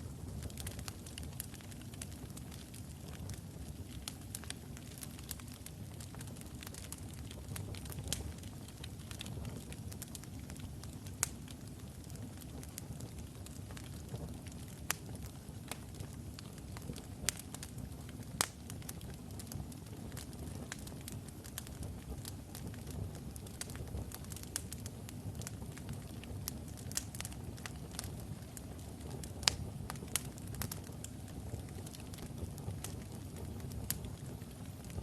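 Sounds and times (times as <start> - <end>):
logs burning in fireplace: 0.0 - 35.0.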